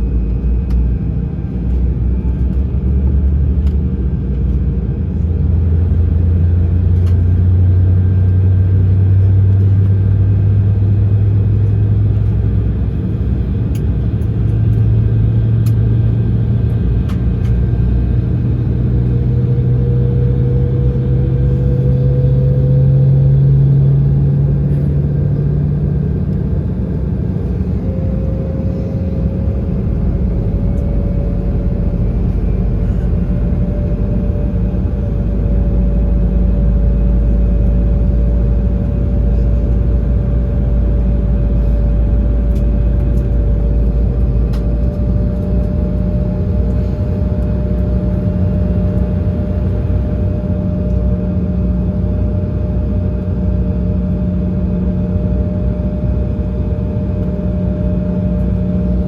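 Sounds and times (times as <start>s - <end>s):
airplane cabin rumble: 0.0s - 59.0s
low engine hum: 0.0s - 59.0s.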